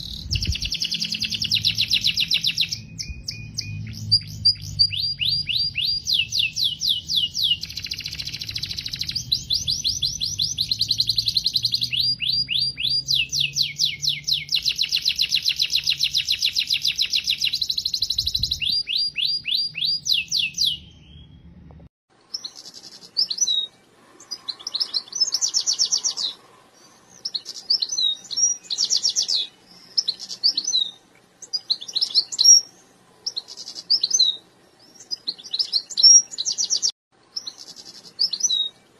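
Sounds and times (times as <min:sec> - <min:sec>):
canary singing trills: 0:00.0 - 0:21.6, 0:22.3 - 0:38.9.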